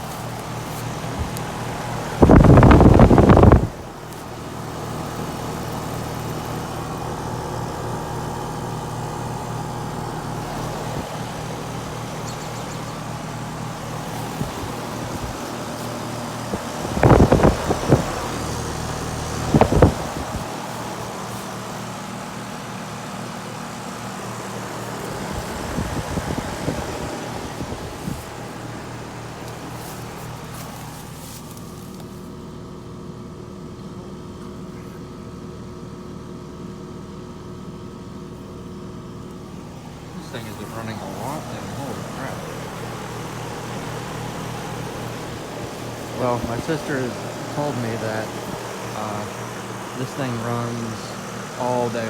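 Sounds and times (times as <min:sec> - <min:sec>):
condenser fan whoosh: 0:00.0 - 0:32.7, 0:38.4 - 0:52.0
air conditioner compressor hum: 0:00.0 - 0:52.0.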